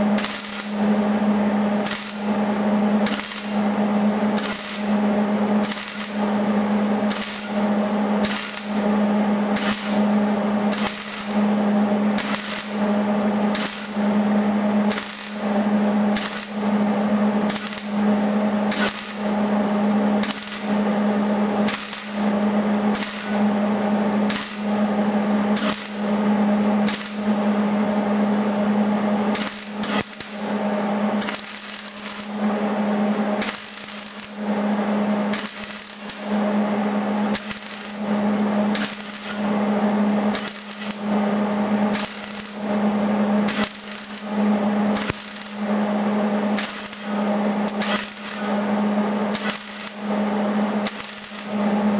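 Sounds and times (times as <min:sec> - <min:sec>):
steady hum: 0:00.0 - 0:51.9
welding arc crackling: 0:00.0 - 0:51.9.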